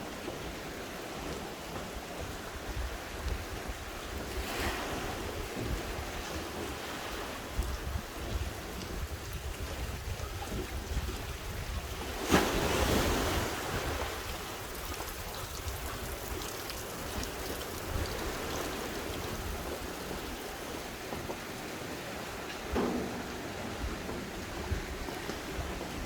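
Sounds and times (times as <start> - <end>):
sea waves washing on shore: 0.0 - 26.0
wind rumbling on microphone: 0.0 - 26.0.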